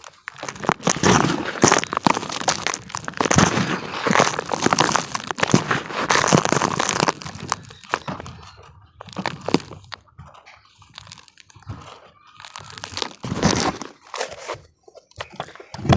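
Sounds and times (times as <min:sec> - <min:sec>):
cement crunching and crumbling: 0:00.0 - 0:15.9.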